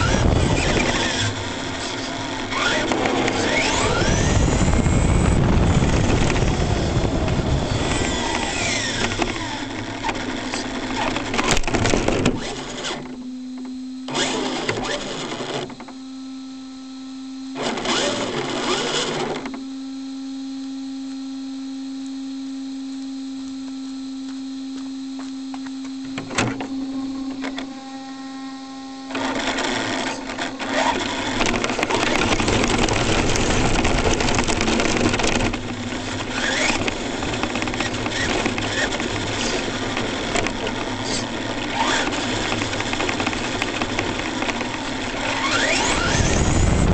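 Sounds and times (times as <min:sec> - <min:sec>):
rc truck motor whine: 0:00.0 - 0:46.9.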